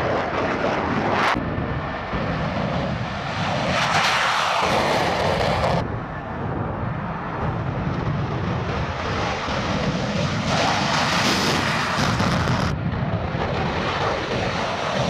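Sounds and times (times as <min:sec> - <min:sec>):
jet engines roaring on takeoff: 0:00.0 - 0:15.0.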